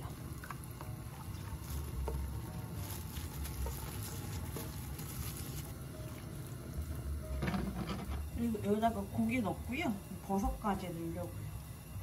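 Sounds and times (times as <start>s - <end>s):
broth bubbling in pot: 0.0s - 12.0s.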